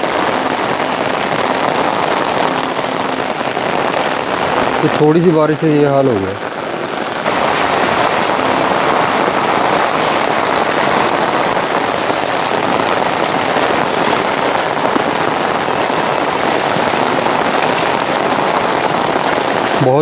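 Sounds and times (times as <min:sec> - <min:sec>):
heavy rain hissing: 0:00.0 - 0:20.0
rainwater runoff rushing: 0:00.0 - 0:20.0.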